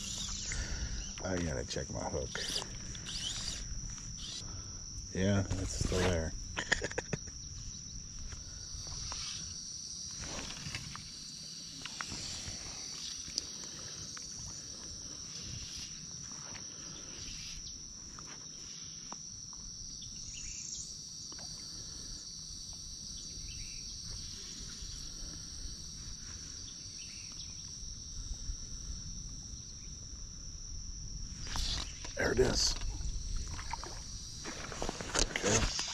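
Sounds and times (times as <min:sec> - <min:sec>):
insect chorus droning: 0:00.0 - 0:35.9.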